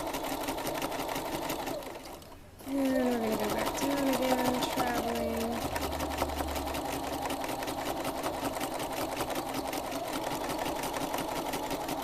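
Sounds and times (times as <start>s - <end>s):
sewing machine running: 0.0s - 12.0s.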